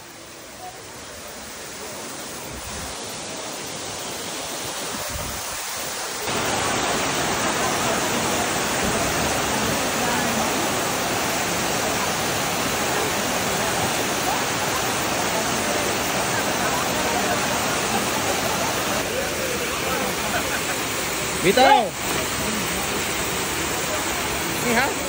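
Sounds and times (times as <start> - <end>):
waterfall pouring into a pool: 0.0 - 25.0.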